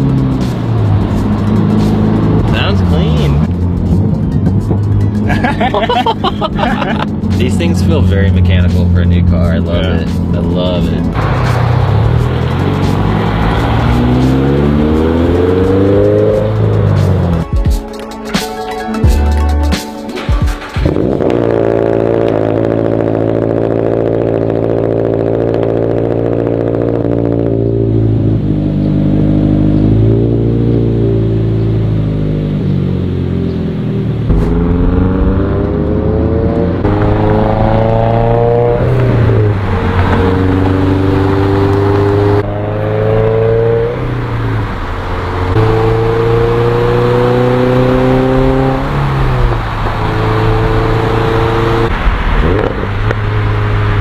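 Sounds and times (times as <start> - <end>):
car exhaust accelerating: 0.0 - 17.5, 20.6 - 54.0.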